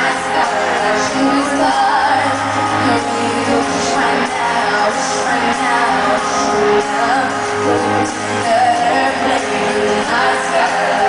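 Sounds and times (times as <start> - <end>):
live pop band: 0.0 - 11.0
women singing: 0.0 - 11.0.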